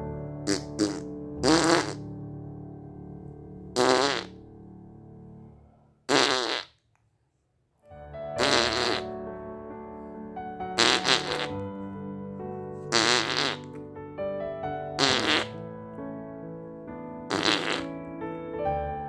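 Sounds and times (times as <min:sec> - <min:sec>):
keyboard music: 0:00.0 - 0:05.7, 0:07.8 - 0:19.0.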